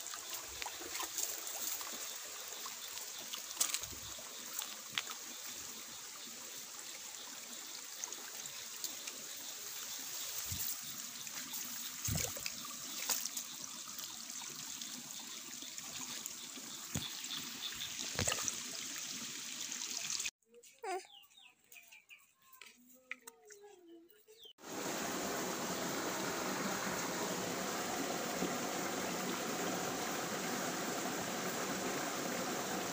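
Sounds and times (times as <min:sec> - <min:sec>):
stream trickling: 0:00.0 - 0:20.3, 0:24.6 - 0:32.9.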